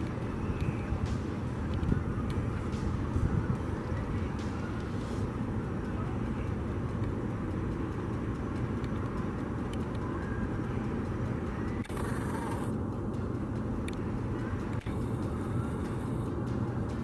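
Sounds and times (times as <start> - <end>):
low rumble of vehicle noise: 0.0 - 17.0.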